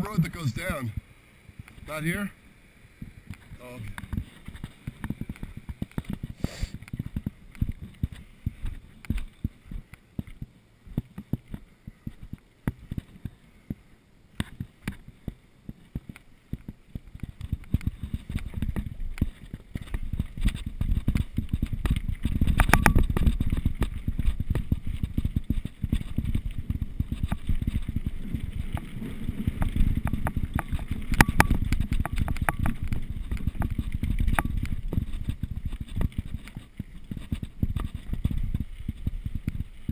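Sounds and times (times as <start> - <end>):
mountain bike rattling over rough ground: 3.1 - 13.3, 15.8 - 39.9.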